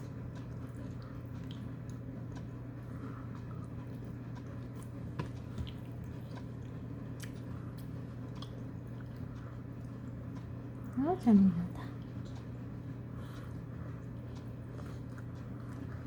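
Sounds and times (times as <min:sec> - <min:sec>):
baby chewing and smacking: 0:00.0 - 0:10.6, 0:11.9 - 0:16.0
steady low hum: 0:00.0 - 0:16.0.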